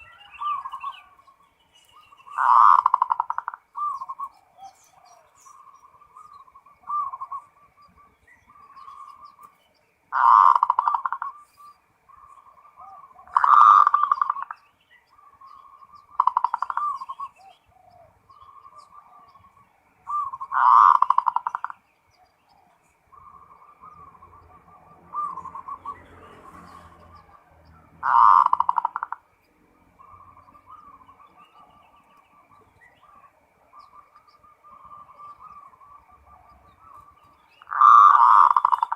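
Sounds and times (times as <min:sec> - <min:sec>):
dove cooing: 0:02.0 - 0:09.5, 0:10.1 - 0:14.6, 0:15.2 - 0:38.9.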